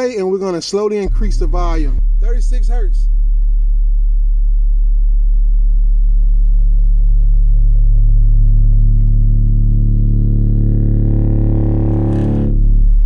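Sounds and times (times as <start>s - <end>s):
subwoofer deep test tone hum: 0.0s - 13.0s.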